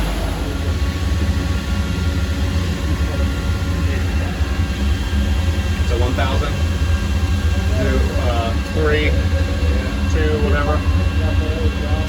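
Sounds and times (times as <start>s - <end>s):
lathe whining and rumbling: 0.0s - 12.0s.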